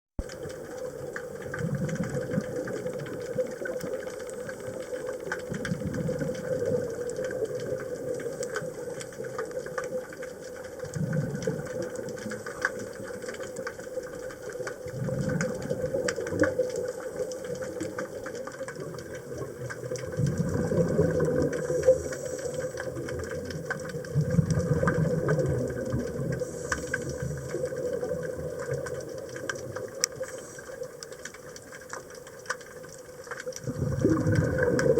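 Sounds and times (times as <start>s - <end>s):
exhaled bubbles underwater: 0.2s - 34.9s
faint crackling clicks: 0.2s - 34.9s.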